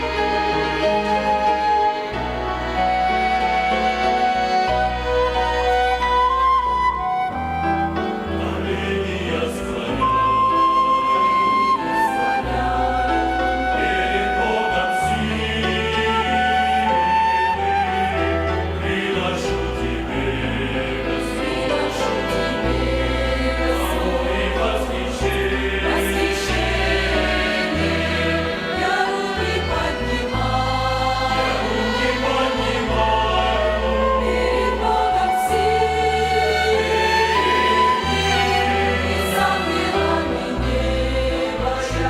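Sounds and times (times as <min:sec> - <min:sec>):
choir singing a hymn: 0:00.0 - 0:42.0
violin ensemble: 0:00.0 - 0:42.0.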